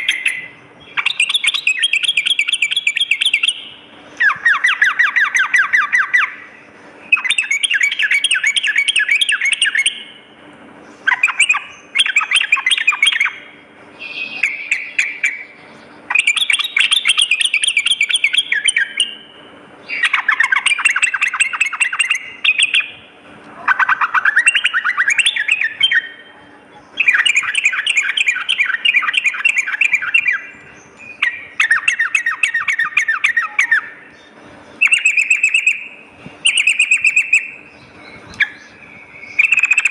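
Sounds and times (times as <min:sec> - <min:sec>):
bird rattling song: 0:00.0 - 0:06.5, 0:07.1 - 0:10.2, 0:10.9 - 0:23.0, 0:23.7 - 0:26.3, 0:26.9 - 0:39.9
faint steady hum: 0:00.0 - 0:39.9.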